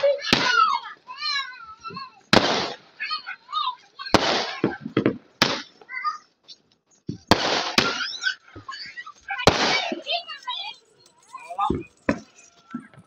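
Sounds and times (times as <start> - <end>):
fireworks bursting: 0.0 - 6.0, 7.1 - 13.0.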